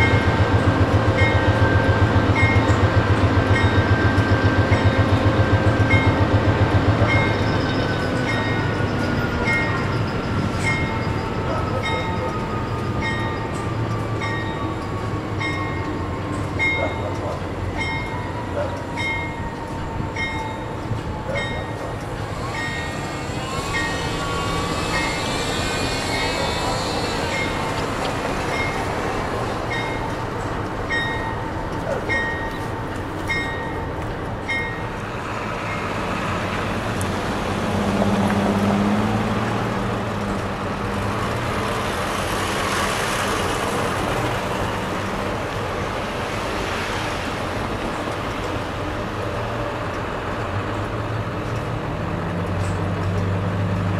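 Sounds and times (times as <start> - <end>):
diesel locomotive idling: 0.0 - 53.9
road traffic passing: 0.0 - 53.9.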